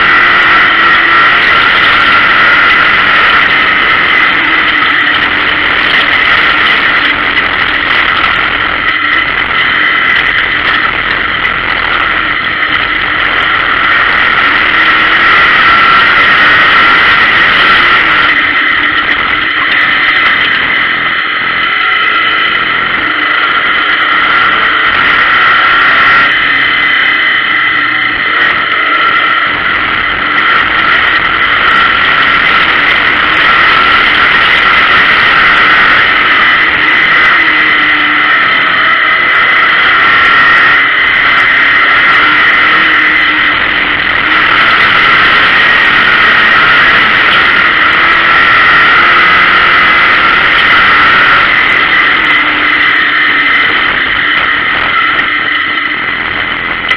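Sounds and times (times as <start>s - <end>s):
car engine high-pitched drone: 0.0s - 56.9s.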